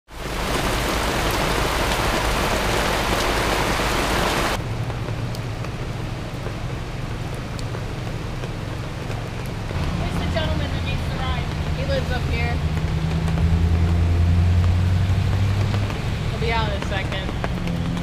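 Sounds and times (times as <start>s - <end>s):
heavy rain on tent canopy: 0.1s - 18.0s
rain hiss over wet street: 0.1s - 18.0s.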